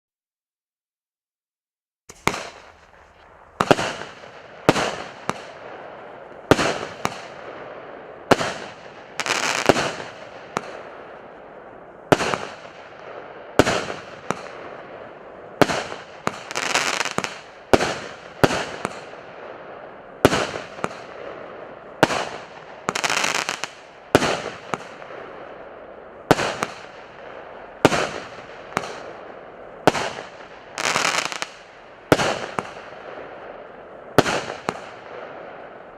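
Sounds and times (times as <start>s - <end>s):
firework bangs with crackle: 2.1s - 11.4s, 12.0s - 33.5s, 34.1s - 35.8s.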